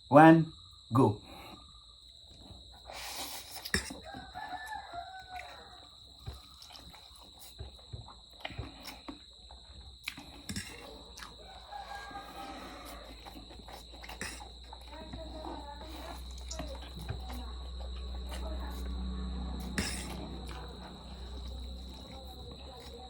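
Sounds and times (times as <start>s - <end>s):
person slurping and chewing noodles: 2.3s - 23.0s.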